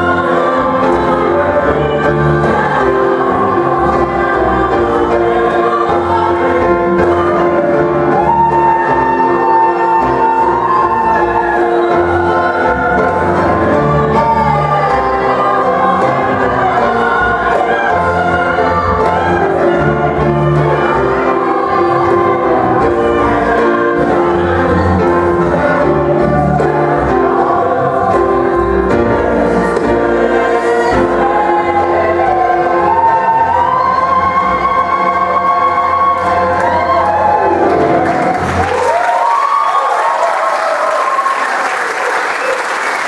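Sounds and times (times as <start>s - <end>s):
choir singing gospel: 0.0s - 43.0s
grand piano: 0.0s - 43.0s.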